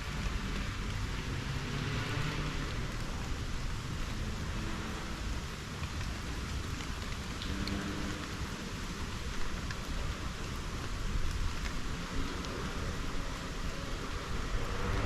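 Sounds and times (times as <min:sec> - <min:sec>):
rain on foliage: 0:00.0 - 0:15.0.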